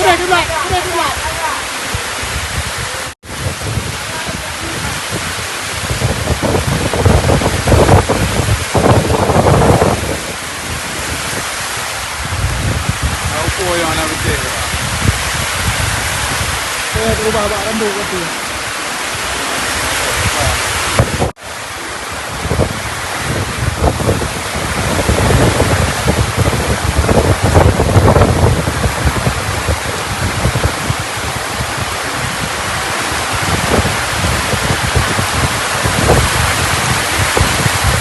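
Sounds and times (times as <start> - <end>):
heavy rain pouring: 0.0 - 38.0
wind gusts buffeting microphone: 0.0 - 38.0.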